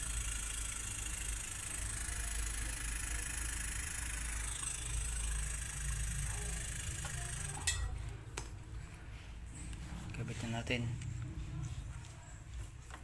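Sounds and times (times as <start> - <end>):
compressor low hum with whine: 0.0 - 13.0.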